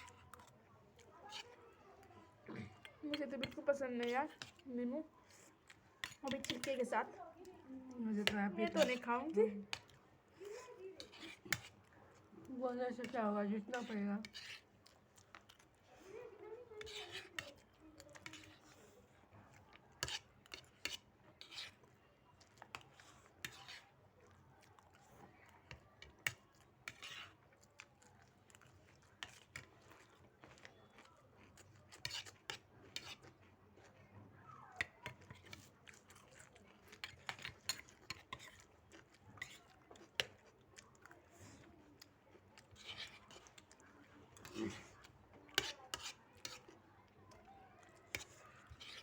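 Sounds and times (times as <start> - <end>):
chewing: 0.0 - 49.0.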